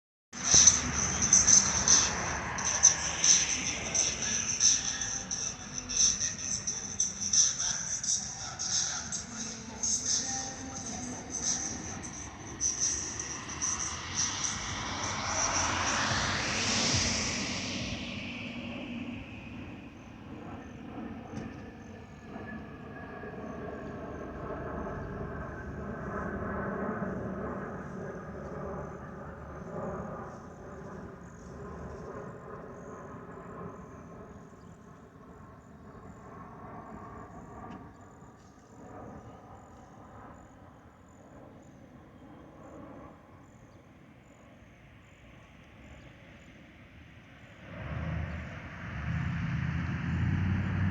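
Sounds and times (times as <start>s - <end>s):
jet engines passing by: 0.4s - 50.9s.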